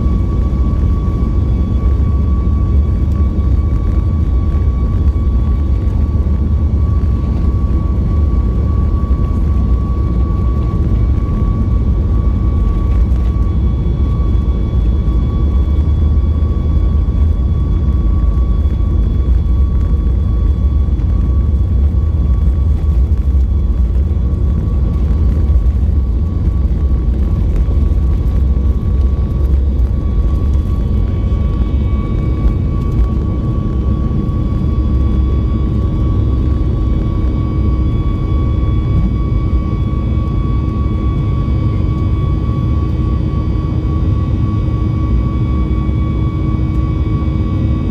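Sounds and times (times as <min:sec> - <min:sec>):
airplane cabin low rumble: 0:00.0 - 0:47.9.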